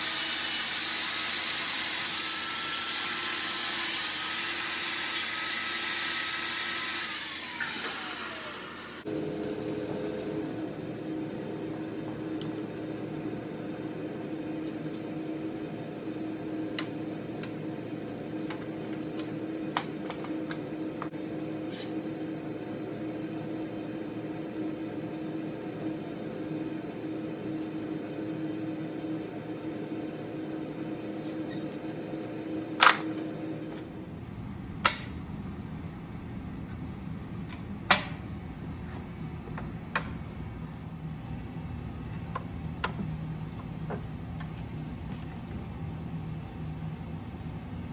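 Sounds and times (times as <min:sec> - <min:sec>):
mechanical hum: 0:00.0 - 0:47.9.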